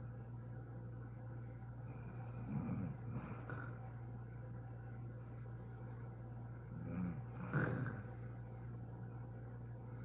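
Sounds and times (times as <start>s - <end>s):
faint room noise: 0.0s - 10.0s
steady low hum: 0.0s - 10.0s.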